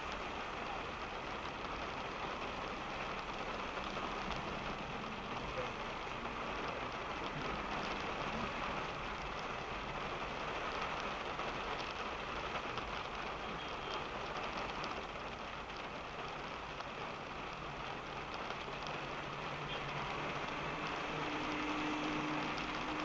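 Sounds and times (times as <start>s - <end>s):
rain on a car roof: 0.0s - 23.0s.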